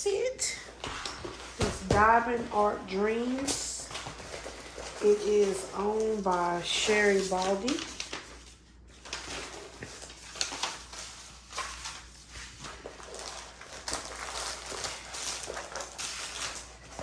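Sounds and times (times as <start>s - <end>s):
packaging rustling and crinkling: 0.6s - 17.0s.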